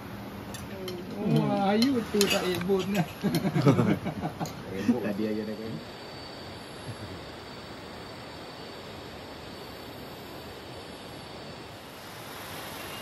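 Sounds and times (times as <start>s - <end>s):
faint high insect tone: 0.0s - 13.0s
rainforest ambience hiss: 0.0s - 13.0s.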